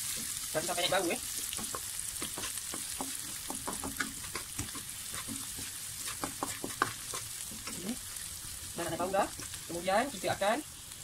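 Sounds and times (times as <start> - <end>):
wooden spatula scraping wok: 0.0 - 10.4
aromatics sizzling in oil: 0.0 - 11.0.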